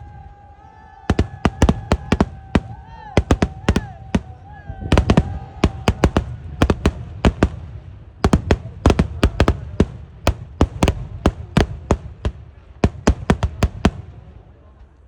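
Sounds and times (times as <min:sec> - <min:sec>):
firework bangs with echo: 0:01.0 - 0:14.3.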